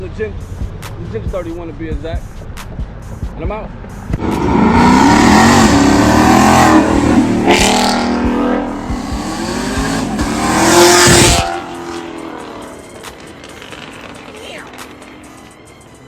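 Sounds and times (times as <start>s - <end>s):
car engine revving: 2.2s - 16.0s.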